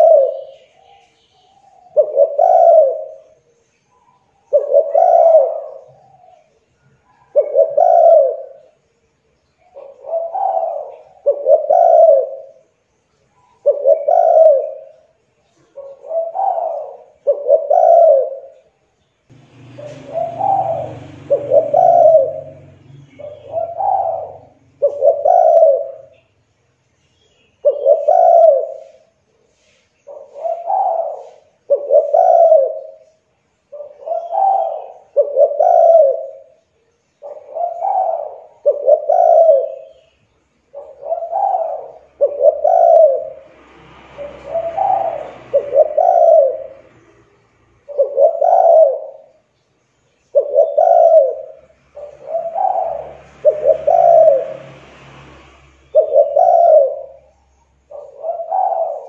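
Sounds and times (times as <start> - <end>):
dove cooing: 0.0 - 8.8, 9.6 - 12.8, 13.4 - 26.3, 27.6 - 43.6, 44.2 - 49.6, 50.2 - 54.8, 55.7 - 59.0.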